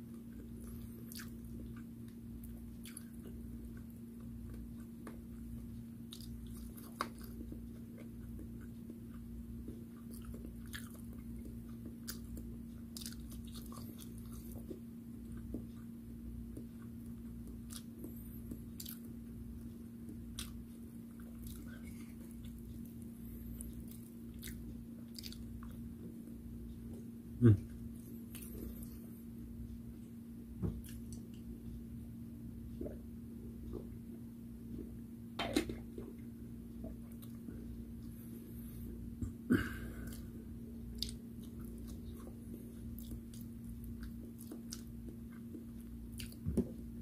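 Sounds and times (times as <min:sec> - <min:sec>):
chewing fried food: 0:00.0 - 0:29.2, 0:30.8 - 0:31.8, 0:32.7 - 0:47.0.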